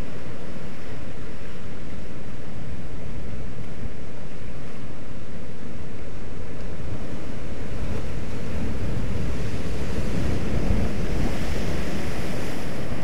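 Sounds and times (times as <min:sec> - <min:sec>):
surf breaking on rocky shore: 0:00.0 - 0:13.0
wind rumbling on microphone: 0:00.0 - 0:13.0.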